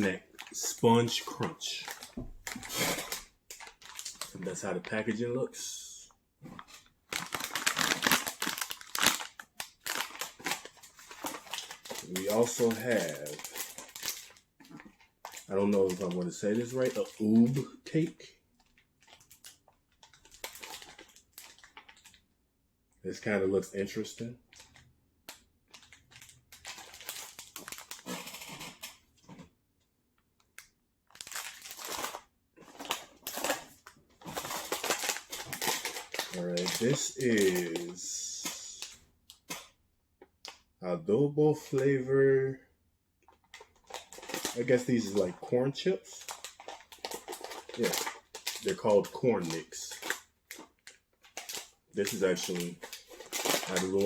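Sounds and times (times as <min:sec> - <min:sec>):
plastic wrappers crinkling: 0:00.0 - 0:05.2, 0:06.4 - 0:22.3, 0:23.8 - 0:29.4, 0:30.4 - 0:39.8, 0:43.2 - 0:54.0.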